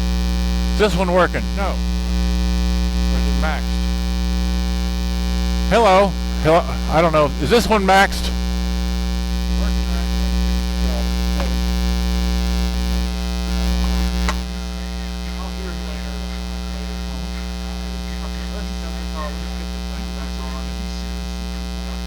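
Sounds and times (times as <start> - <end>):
boombox mains hum: 0.0 - 22.0.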